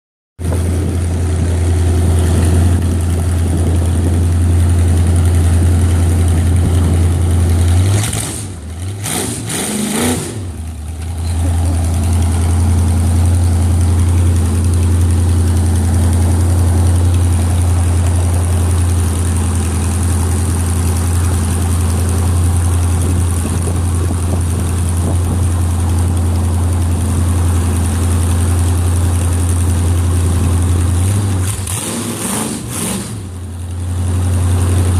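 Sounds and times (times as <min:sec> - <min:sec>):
boat engine drone: 0:00.4 - 0:34.9.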